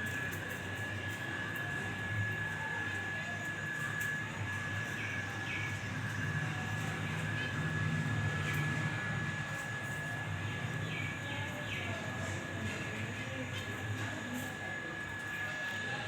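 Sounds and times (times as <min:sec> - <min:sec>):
mechanical hum with high whine: 0:00.0 - 0:16.0.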